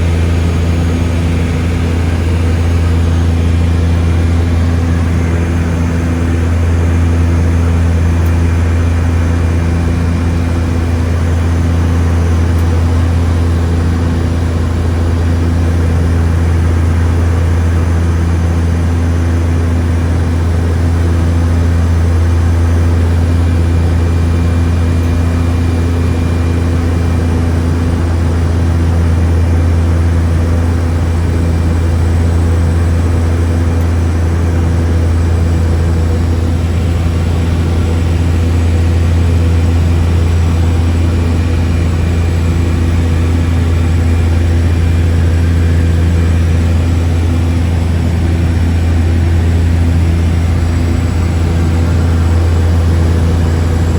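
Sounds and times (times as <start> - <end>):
propeller engine drone: 0.0 - 53.9.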